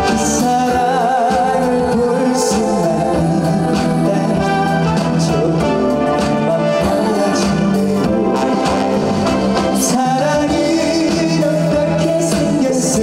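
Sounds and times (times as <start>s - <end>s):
band playing: 0.0s - 13.0s
man singing: 0.0s - 13.0s.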